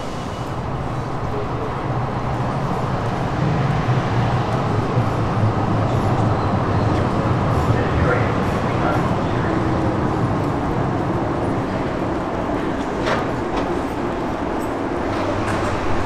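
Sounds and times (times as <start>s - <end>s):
light-rail train rumbling: 0.0s - 16.0s.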